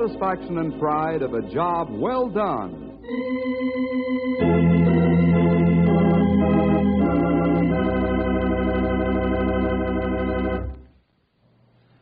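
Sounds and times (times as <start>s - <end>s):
organ playing sustained chords: 0.0s - 10.9s.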